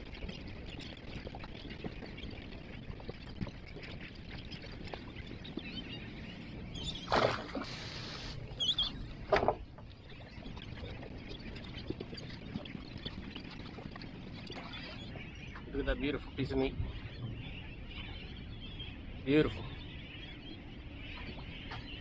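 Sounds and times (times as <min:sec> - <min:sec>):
seabirds calling: 0:00.0 - 0:22.0
water lapping against boat hull: 0:00.0 - 0:22.0.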